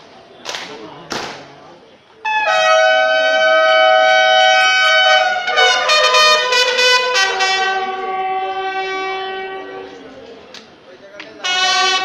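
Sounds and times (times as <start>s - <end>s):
bugles playing: 2.1s - 12.0s.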